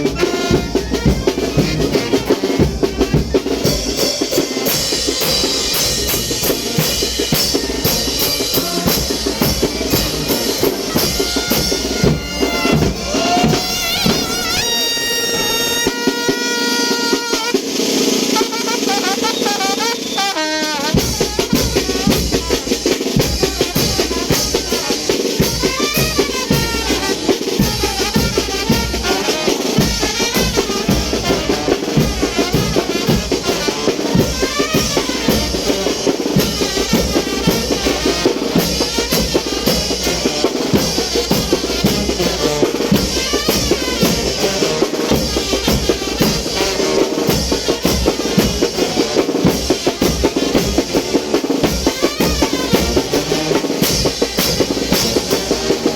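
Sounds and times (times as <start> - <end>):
bass drum snare and cymbals beat: 0.0 - 55.9
wind band playing dance music: 0.0 - 55.9
wind instrument melody: 0.0 - 55.9.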